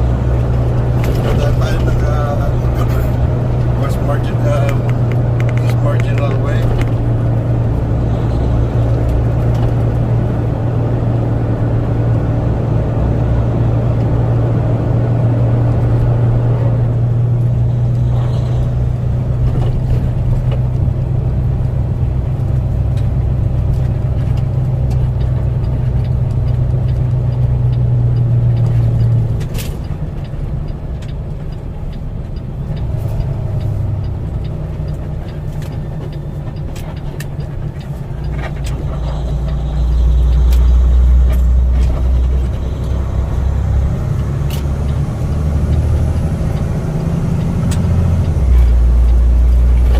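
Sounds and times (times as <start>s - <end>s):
road noise: 0.0s - 49.9s
truck engine droning: 0.0s - 49.9s.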